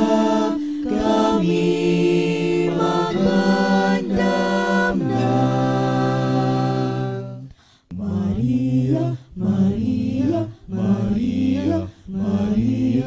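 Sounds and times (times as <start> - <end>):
low chanting voices: 0.0 - 13.0.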